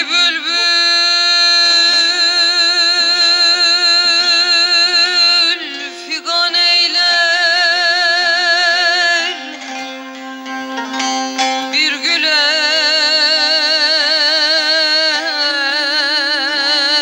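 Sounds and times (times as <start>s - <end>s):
folk music with held vibrato notes: 0.0s - 17.0s.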